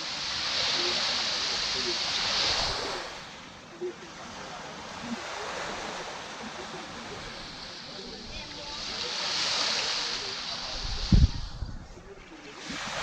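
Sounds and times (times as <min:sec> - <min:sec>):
faint voices murmuring: 0:00.0 - 0:13.0
waves washing on beach: 0:00.0 - 0:13.0.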